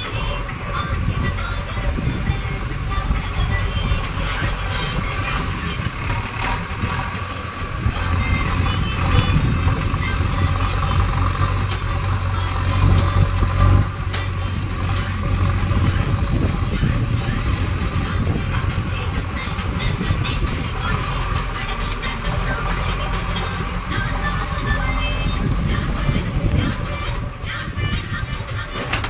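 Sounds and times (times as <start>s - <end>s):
diesel engine running under load: 0.0s - 29.0s.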